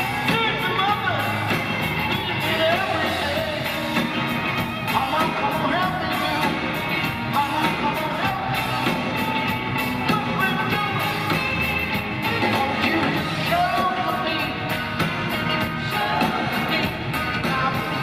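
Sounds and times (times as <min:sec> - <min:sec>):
man singing: 0:00.0 - 0:11.6, 0:12.2 - 0:18.0
live rock band: 0:00.0 - 0:18.0.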